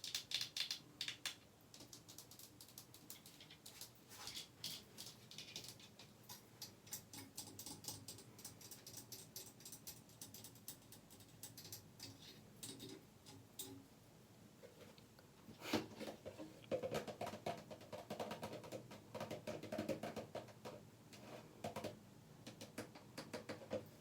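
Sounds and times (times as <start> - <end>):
tapping and scratching on objects: 0.0 - 13.8, 15.7 - 23.9.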